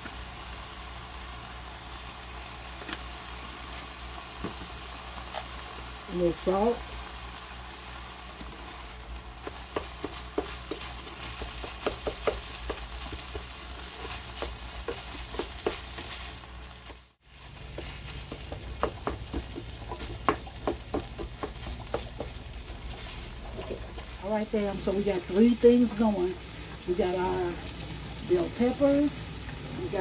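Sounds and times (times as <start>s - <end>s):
meat frying in a skillet: 0.0s - 30.0s.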